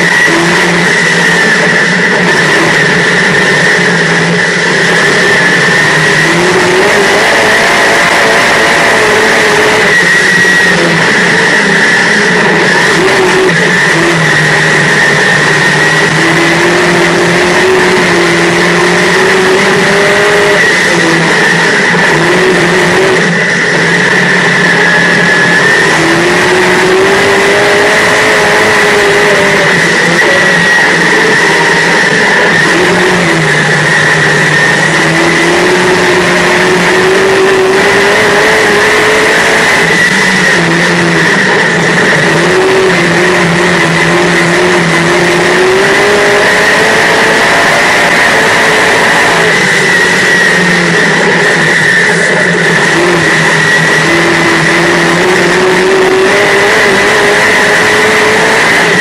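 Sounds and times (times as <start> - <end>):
race car engine: 0.0 - 59.0
steady high whine: 0.0 - 59.0.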